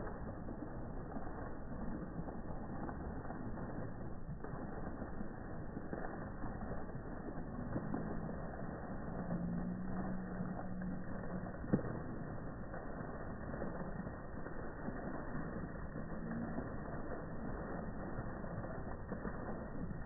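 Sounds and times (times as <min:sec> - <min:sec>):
fountain splashing into pool: 0:00.0 - 0:20.0
low steady hum: 0:00.0 - 0:20.0.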